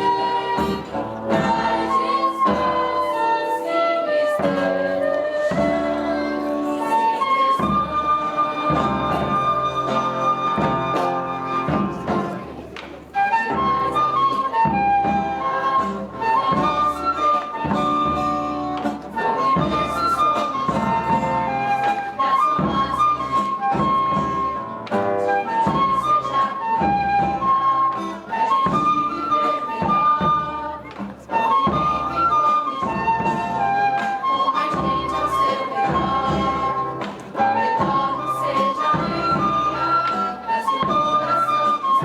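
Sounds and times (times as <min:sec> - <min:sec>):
flute melody: 0:00.0 - 0:42.0
sustained accompaniment: 0:00.0 - 0:42.0.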